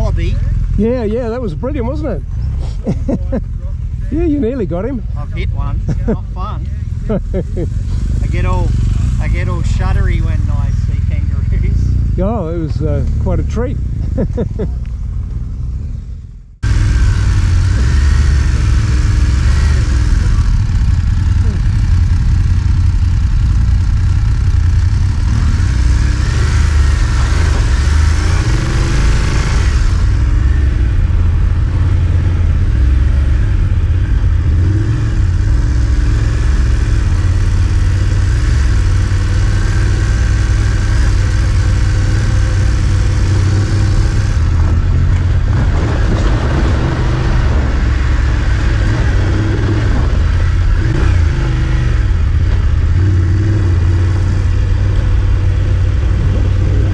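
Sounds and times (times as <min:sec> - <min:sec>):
low wind rumble: 0:00.0 - 0:56.9
motorcycle engine revving: 0:00.0 - 0:56.9.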